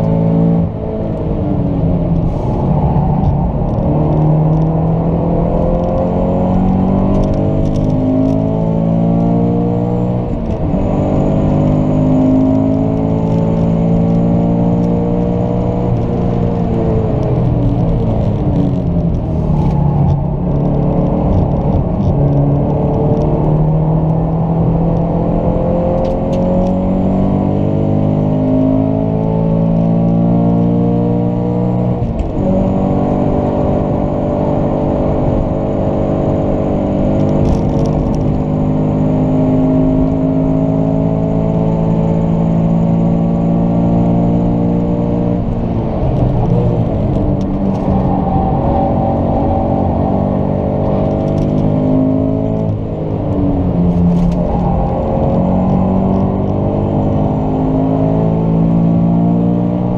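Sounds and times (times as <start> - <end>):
car engine revving under acceleration: 0.0 - 59.9.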